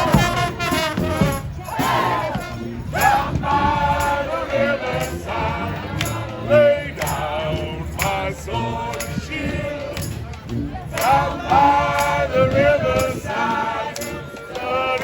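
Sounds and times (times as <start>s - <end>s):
street band music: 0.0s - 15.0s.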